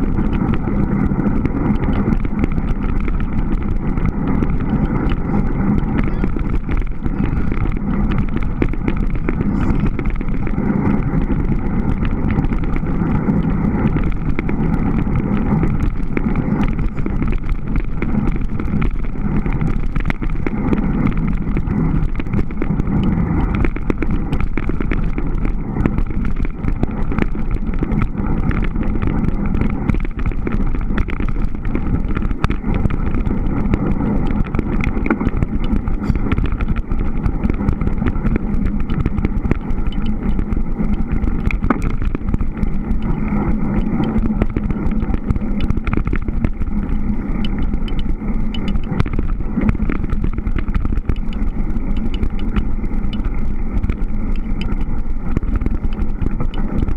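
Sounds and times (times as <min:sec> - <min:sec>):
bike tyres rumbling over snow: 0:00.0 - 0:56.9.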